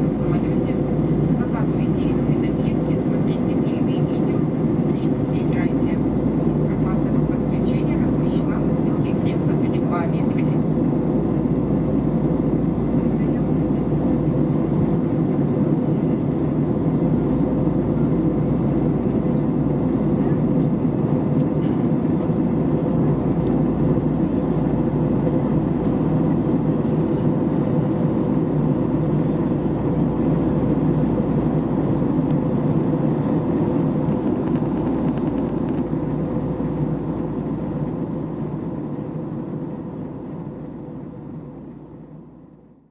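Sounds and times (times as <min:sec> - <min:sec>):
jet engine and airflow rush: 0:00.0 - 0:42.9.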